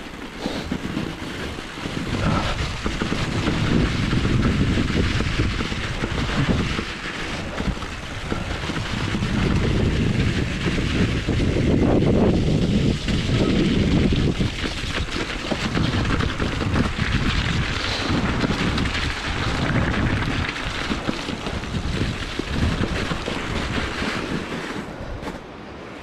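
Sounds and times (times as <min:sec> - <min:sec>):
tyres crunching over stones: 0:00.0 - 0:25.5
bike rattling: 0:00.0 - 0:26.0
wind buffeting microphone: 0:00.0 - 0:26.0.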